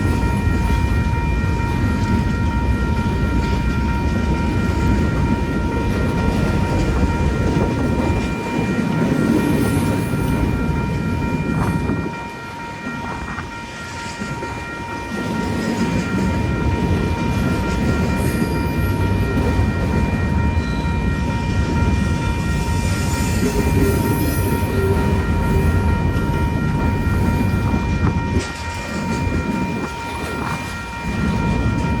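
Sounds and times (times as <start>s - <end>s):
steady high tone: 0.0s - 32.0s
train rumbling past: 0.0s - 32.0s.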